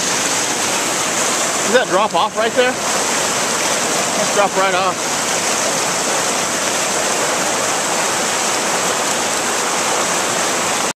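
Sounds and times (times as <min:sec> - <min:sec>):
stream rushing over rocks: 0:00.0 - 0:10.9.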